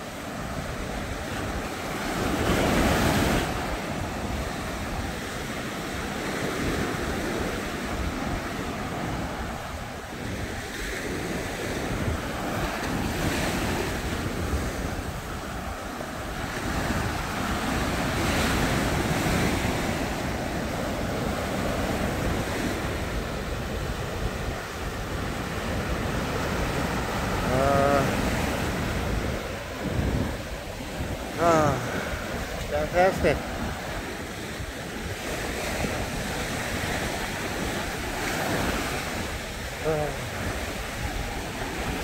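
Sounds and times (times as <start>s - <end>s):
ocean waves on a beach: 0.0s - 42.0s
wind buffeting microphone: 0.0s - 42.0s.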